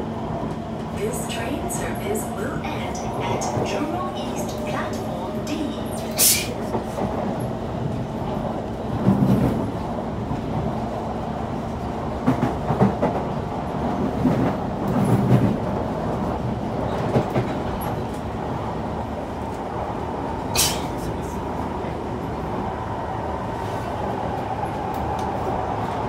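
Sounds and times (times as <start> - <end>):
train thumps and rattles: 0.0 - 22.6
train wheels rumbling on rail: 0.0 - 26.0.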